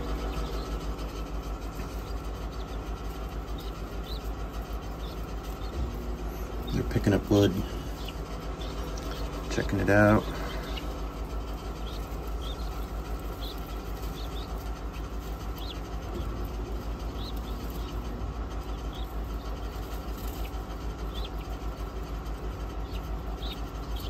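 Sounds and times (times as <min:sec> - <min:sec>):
guinea fowl chicks peeping: 0:00.0 - 0:24.0
steady low hum: 0:00.0 - 0:24.0.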